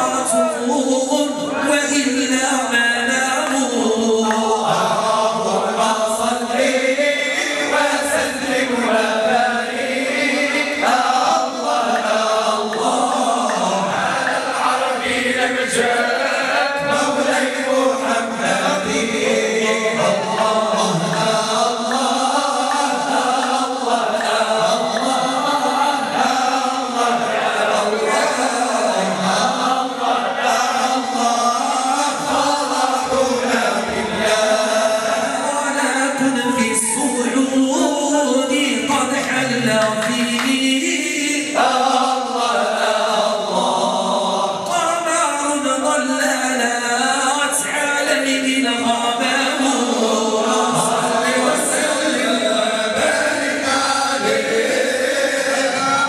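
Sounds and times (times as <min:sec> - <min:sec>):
men singing a chant: 0:00.0 - 0:56.0.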